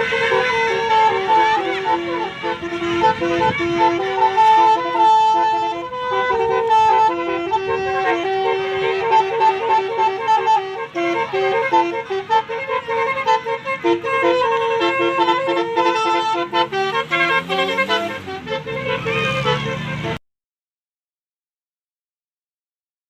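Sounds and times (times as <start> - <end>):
bus horn playing a melody: 0.0 - 20.2.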